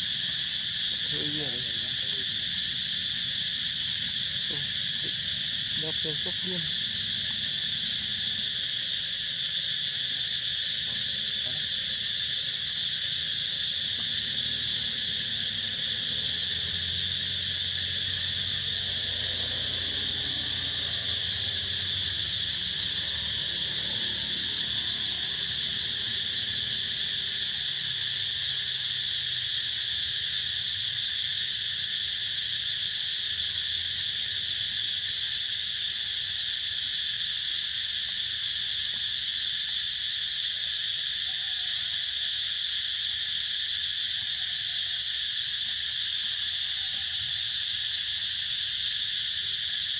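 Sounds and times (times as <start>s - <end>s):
insects chorus: 0.0s - 49.9s.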